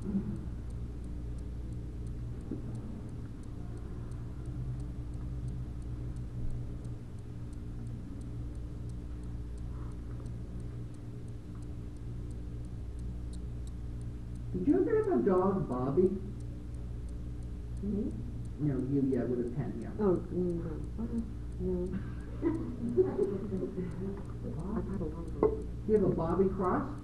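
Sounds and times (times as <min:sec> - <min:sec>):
faint high ticks: 0:00.0 - 0:27.0
steady low hum: 0:00.0 - 0:27.0.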